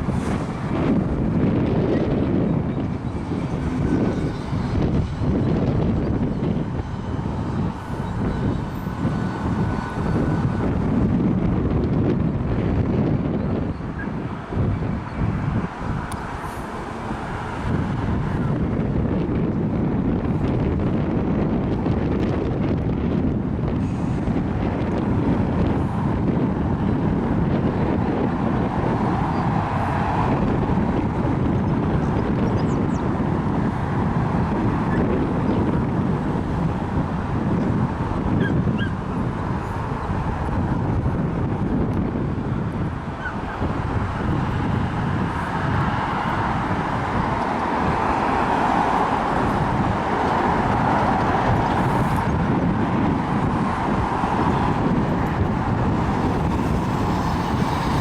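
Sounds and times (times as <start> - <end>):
train rumbling: 0.0 - 58.0
wind buffeting microphone: 0.0 - 58.0.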